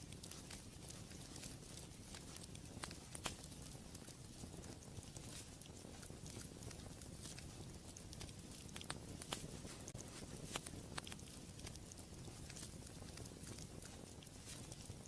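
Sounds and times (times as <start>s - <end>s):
fireplace fire crackling: 0.0s - 15.0s
sharp pops of fire: 0.1s - 15.0s.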